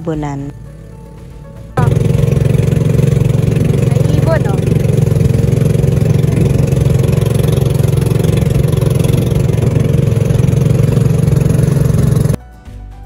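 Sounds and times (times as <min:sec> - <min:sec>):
boat engine drone: 0:00.0 - 0:12.4.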